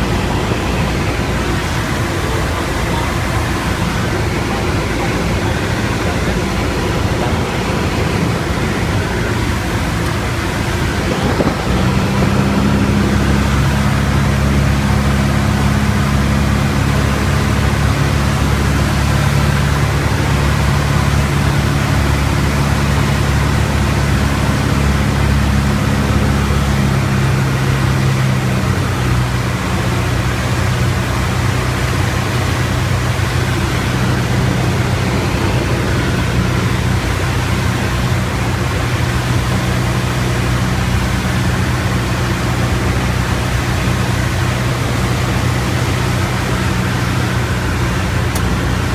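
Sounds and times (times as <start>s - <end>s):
airplane engine and propeller droning: 0.0s - 48.9s.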